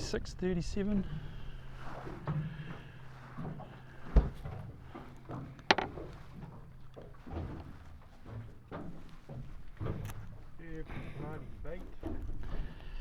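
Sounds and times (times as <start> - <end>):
gear knocking on a boat: 0.0 - 13.0
low steady hum: 0.0 - 13.0.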